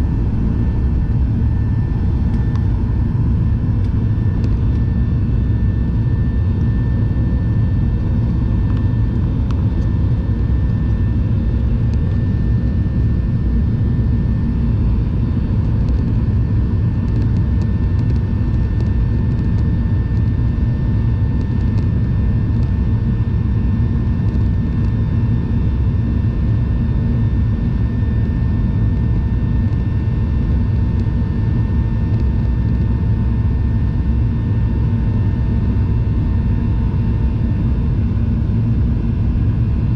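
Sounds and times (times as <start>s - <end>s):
faint steady whine: 0.0s - 39.9s
jet engine and airflow rumble: 0.0s - 39.9s.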